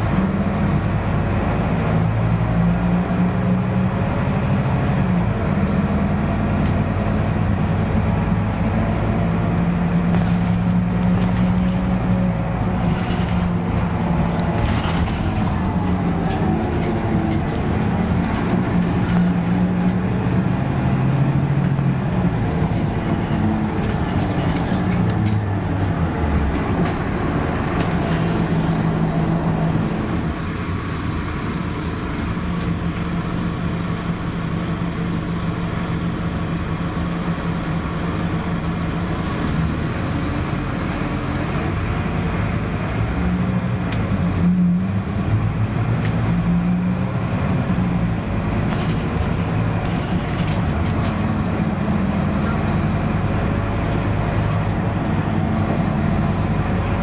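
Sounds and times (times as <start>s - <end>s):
bus diesel engine running: 0.0s - 57.0s
road noise inside bus: 0.0s - 57.0s.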